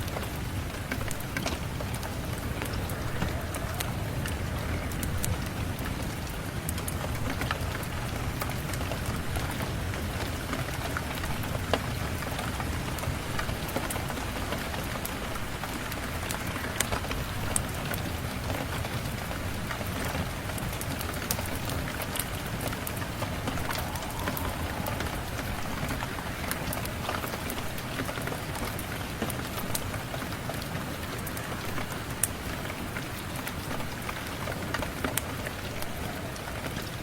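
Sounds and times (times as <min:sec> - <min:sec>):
steady rain: 0:00.0 - 0:37.0
wood fire crackling: 0:00.0 - 0:37.0.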